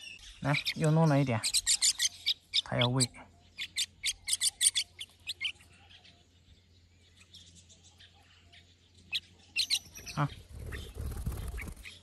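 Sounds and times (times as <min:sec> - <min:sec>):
fledgling bird begging chirps: 0:00.0 - 0:06.4, 0:07.1 - 0:12.0.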